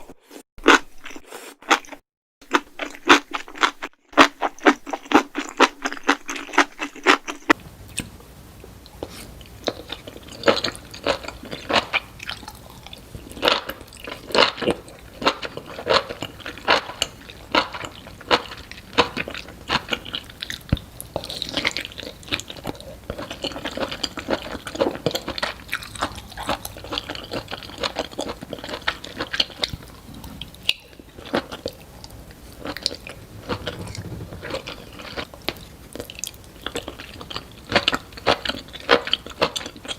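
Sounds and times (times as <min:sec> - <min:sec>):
crunchy wet chewing: 0:00.3 - 0:08.1, 0:08.9 - 0:39.9.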